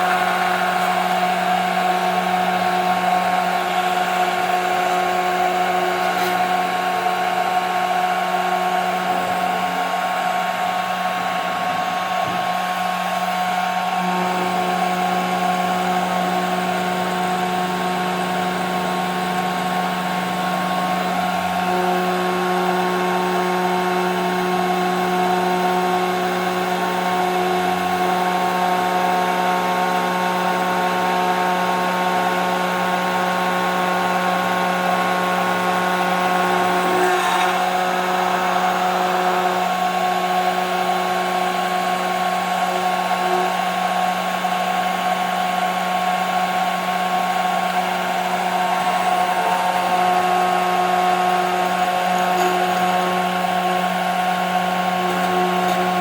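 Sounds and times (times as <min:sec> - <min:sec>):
machine hum and whine: 0:00.0 - 0:56.0.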